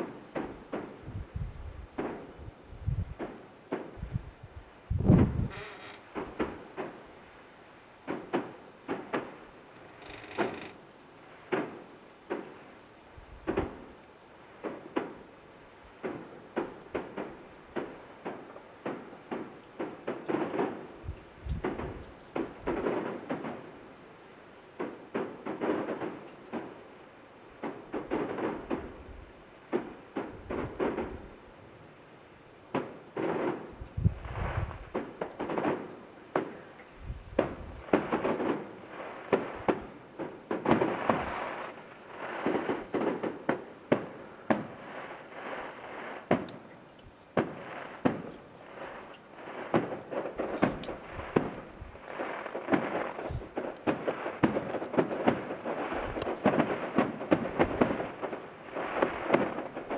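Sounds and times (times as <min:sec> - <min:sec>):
distant fireworks bursts and crackles: 0:00.0 - 0:59.9.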